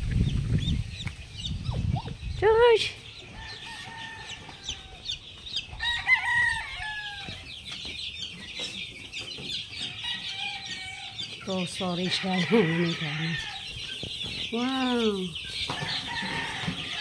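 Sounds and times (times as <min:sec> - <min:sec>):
drawn-out chicken calls: 0:00.0 - 0:17.0
young chickens peeping: 0:00.0 - 0:17.0.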